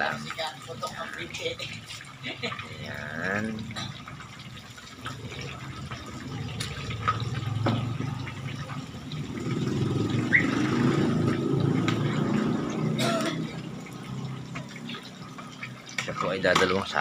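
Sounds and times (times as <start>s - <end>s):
meat deep-frying in oil: 0.0s - 17.0s
oil popping: 0.0s - 17.0s.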